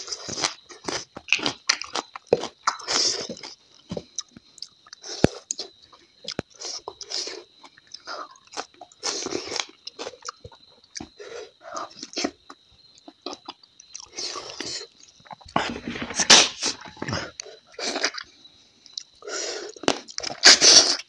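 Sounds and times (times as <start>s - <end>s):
crunches of crisp food: 0.0s - 21.0s
person chewing food: 0.0s - 21.0s.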